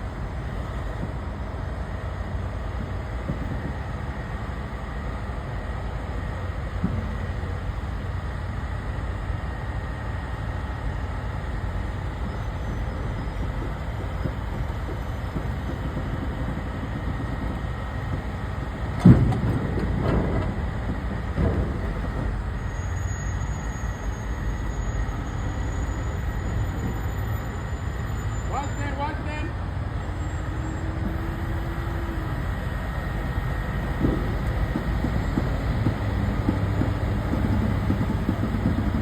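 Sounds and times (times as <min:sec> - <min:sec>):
truck engine rumbling: 0:00.0 - 0:39.0.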